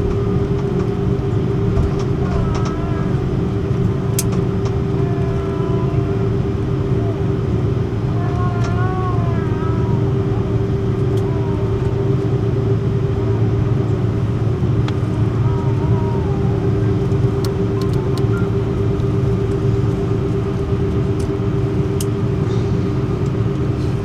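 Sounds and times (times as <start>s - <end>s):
vehicle interior rumble: 0.0s - 24.0s
faint voices: 1.5s - 20.9s.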